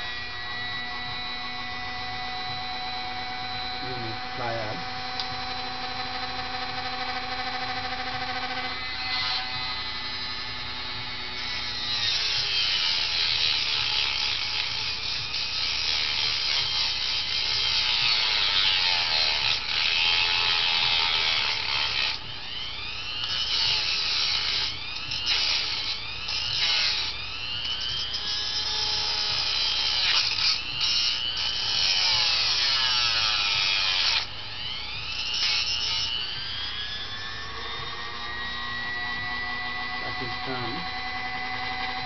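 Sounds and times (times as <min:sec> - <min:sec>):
rotary tool motor whine: 0:00.0 - 0:42.0
cut-off wheel grinding metal screw: 0:01.8 - 0:42.0.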